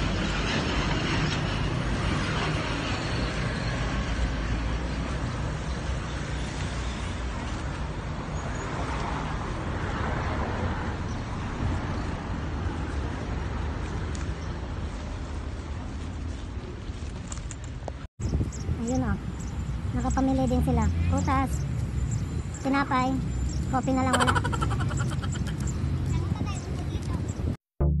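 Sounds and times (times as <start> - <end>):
vehicle passing by: 0.0 - 15.6, 18.5 - 27.5
road traffic noise: 0.0 - 27.6.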